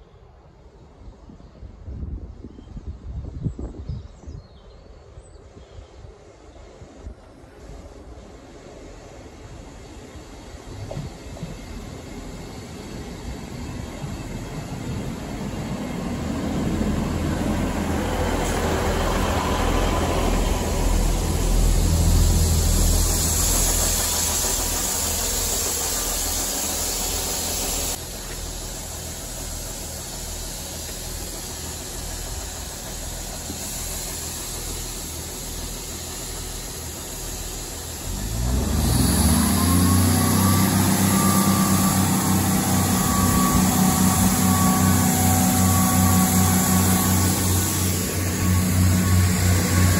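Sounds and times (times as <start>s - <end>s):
diesel train engines: 0.0s - 49.9s
rumbling hiss: 5.6s - 49.9s.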